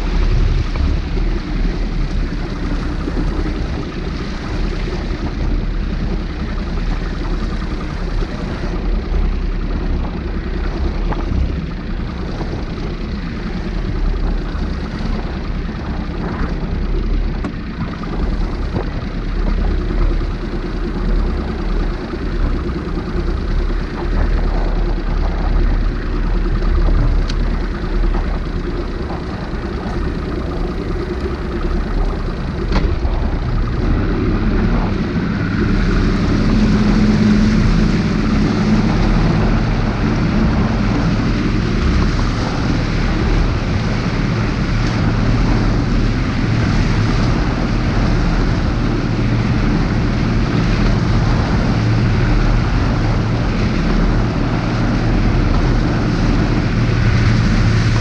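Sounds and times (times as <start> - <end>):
outboard motor running: 0.0 - 58.0
wind and water rushing: 0.0 - 58.0.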